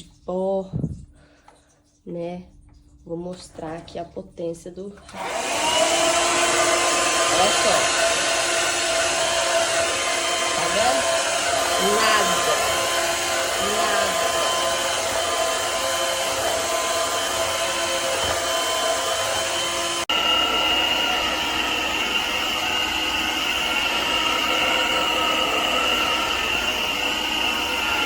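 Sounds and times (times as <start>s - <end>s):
vacuum motor whining: 5.0s - 28.0s.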